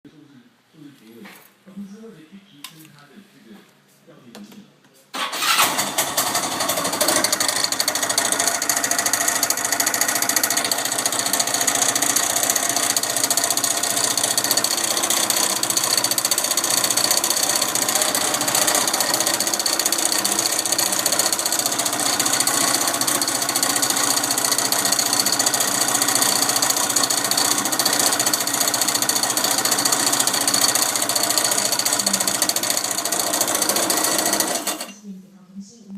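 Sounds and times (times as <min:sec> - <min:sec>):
scooter engine rattling: 0:05.2 - 0:34.9.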